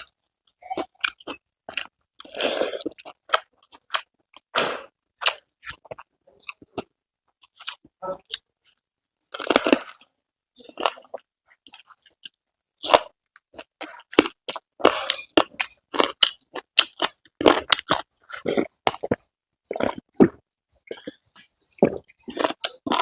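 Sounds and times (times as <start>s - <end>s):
person chewing crisp food: 0.0s - 23.0s.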